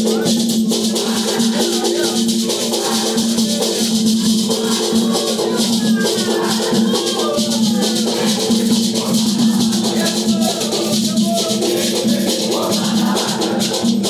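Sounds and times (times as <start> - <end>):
people singing: 0.0 - 14.0
shakers rattling: 0.0 - 14.0.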